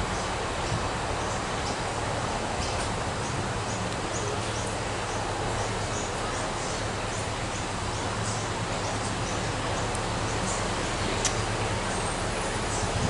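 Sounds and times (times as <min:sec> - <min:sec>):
diesel locomotive engine hum: 0:00.0 - 0:13.0.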